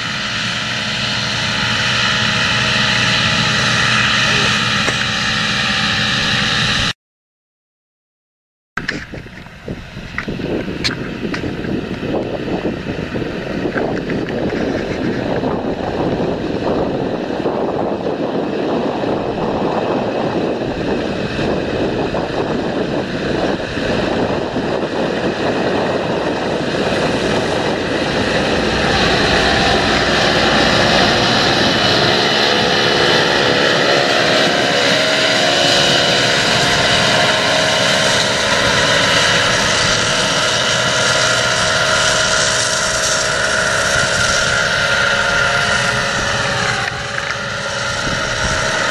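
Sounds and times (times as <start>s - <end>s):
tractor diesel engine under load: 8.9s - 48.9s.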